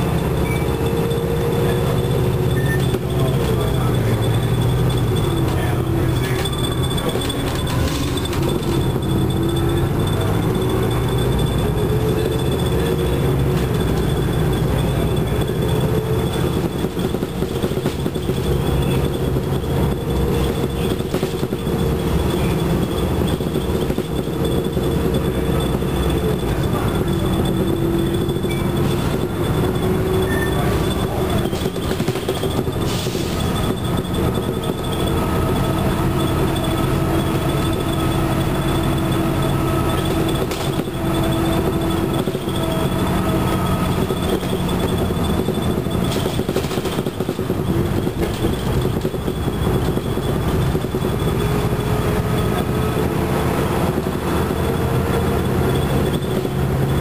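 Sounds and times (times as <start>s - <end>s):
bus engine drone: 0.0s - 57.0s
drive whine: 0.0s - 57.0s
road noise: 0.0s - 57.0s.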